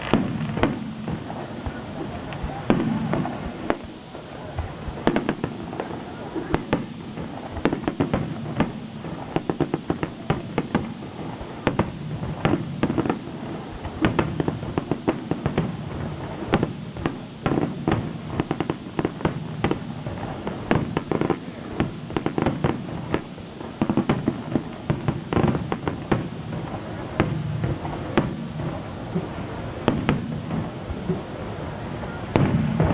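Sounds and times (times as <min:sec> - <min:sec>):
low rumble of bursting shells: 0:00.0 - 0:31.4, 0:32.3 - 0:32.9
fireworks bangs and crackles: 0:00.0 - 0:32.9.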